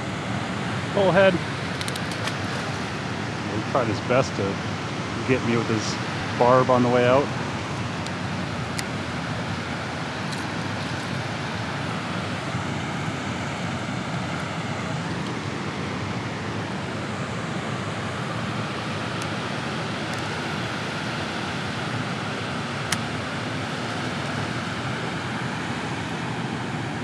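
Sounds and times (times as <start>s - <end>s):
water rushing through spillway: 0.0s - 27.0s.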